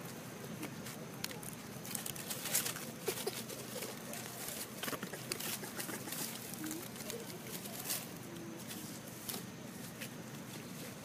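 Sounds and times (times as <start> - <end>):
dry leaves rustling and crackling: 0.5 - 11.0.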